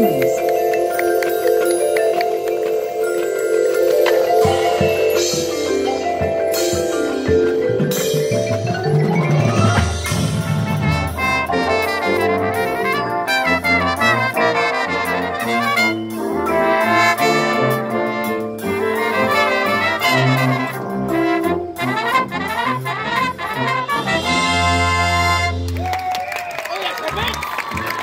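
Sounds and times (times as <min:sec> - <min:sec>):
marching band brass playing: 0:00.0 - 0:25.8.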